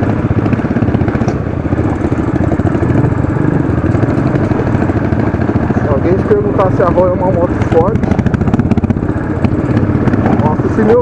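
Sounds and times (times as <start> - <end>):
motorcycle engine pulling uphill: 0.0 - 11.0.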